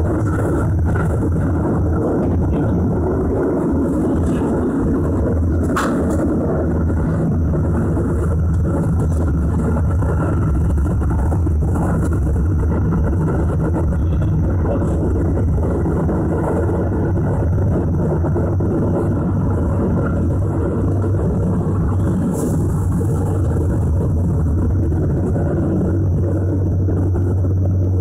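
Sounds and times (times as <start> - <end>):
low electric motor hum: 0.0 - 28.0
train wheels rumbling on rails: 0.0 - 28.0.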